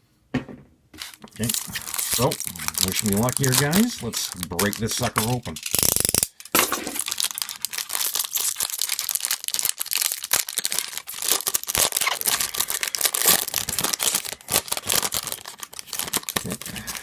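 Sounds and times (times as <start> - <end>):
plastic wrapper tearing and crinkling: 1.0 - 17.0.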